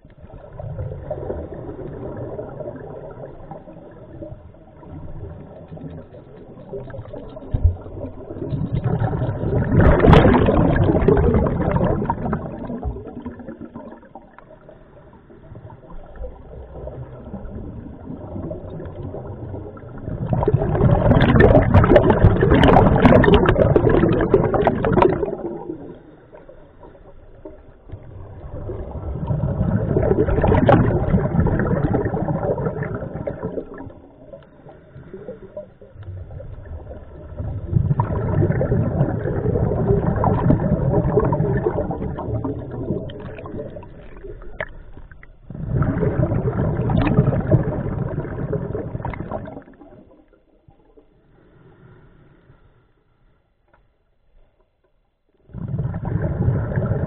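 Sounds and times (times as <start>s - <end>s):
underwater breathing bubbles: 0.3s - 53.3s, 55.4s - 57.0s.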